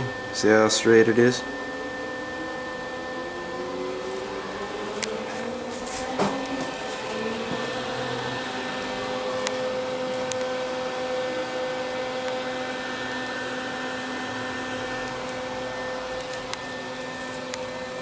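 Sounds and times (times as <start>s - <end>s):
small electric motor whirring: 0.0s - 18.0s.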